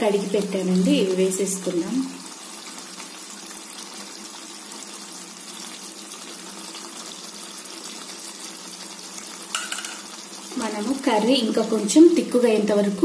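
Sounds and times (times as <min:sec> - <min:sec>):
curry simmering with sizzling hiss: 0:00.0 - 0:13.0.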